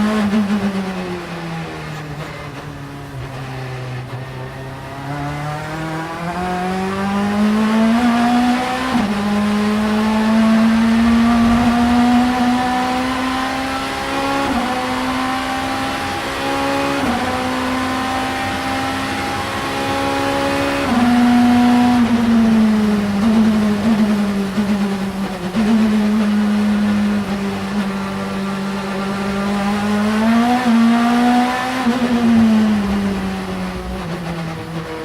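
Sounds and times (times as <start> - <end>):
race car engine at full throttle: 0.0 - 35.0.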